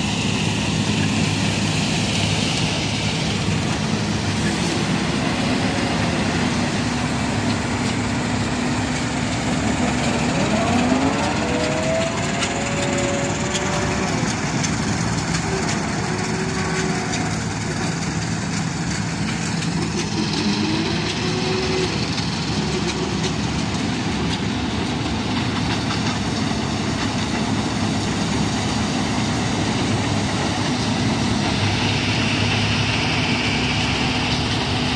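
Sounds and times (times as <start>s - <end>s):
combine harvester engine drone: 0.0s - 34.9s
threshing machinery noise: 0.0s - 34.9s.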